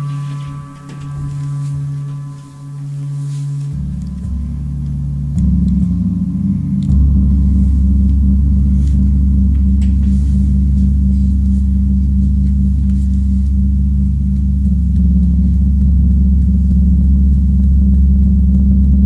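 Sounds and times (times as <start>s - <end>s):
deep gong drone: 0.0s - 19.0s.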